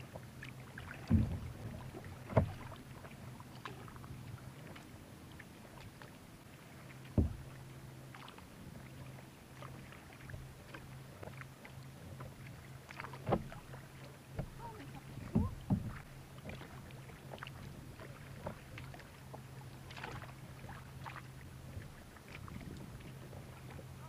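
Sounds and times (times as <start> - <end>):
paddle splashing through water: 0.0 - 24.0.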